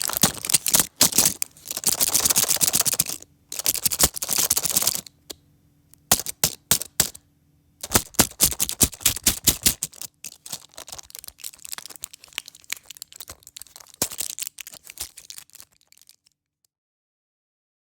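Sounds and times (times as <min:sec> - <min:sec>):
pill pack crackling clicks: 0:00.0 - 0:05.4, 0:06.0 - 0:07.2, 0:07.8 - 0:16.3.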